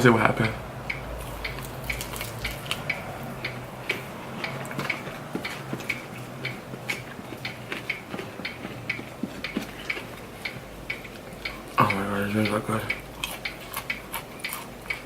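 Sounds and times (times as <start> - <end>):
faint low hum: 0.0 - 15.0
chewing and lip smacks: 0.4 - 12.0, 12.9 - 15.0.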